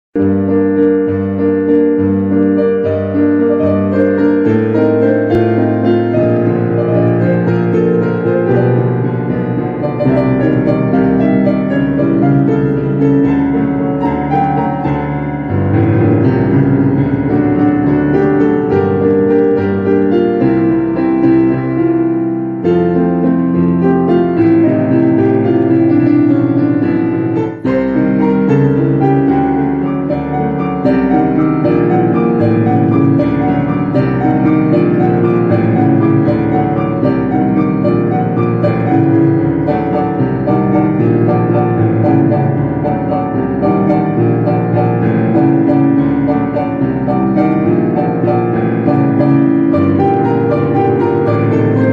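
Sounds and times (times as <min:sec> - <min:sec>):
piano music: 0:00.1 - 0:51.9.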